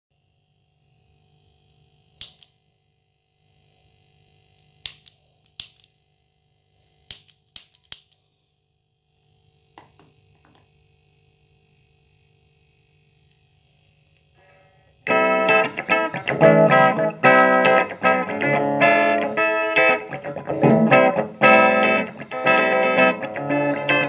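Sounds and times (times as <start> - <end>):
faint steady hum: 0.1 - 24.0.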